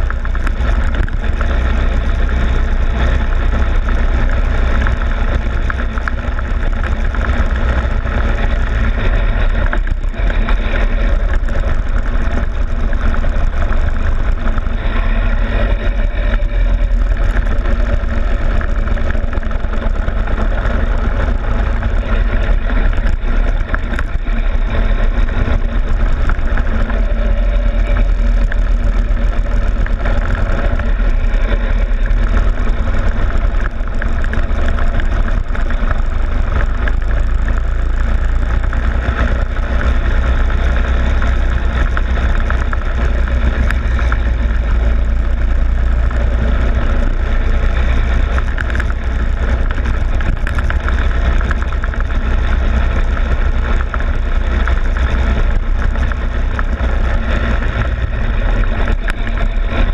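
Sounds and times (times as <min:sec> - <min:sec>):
go-kart engine running: 0:00.0 - 0:59.9
wind and road rumble: 0:00.0 - 0:59.9.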